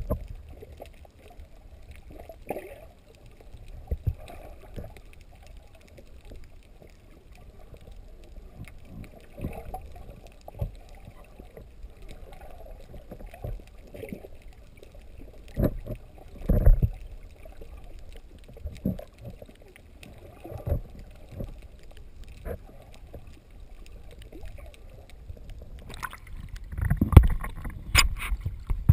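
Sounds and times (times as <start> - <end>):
underwater rumble of water: 0.0 - 28.9
water splashing: 0.0 - 28.9.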